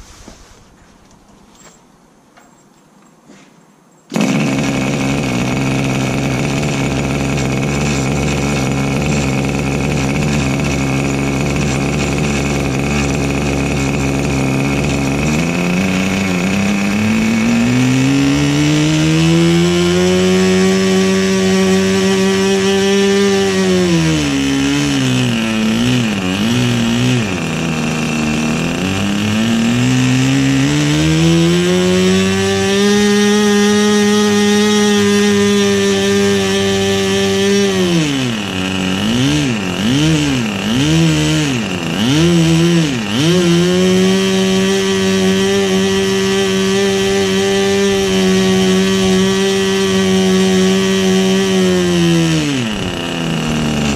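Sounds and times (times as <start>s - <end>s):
model aeroplane engine running: 4.1s - 53.9s.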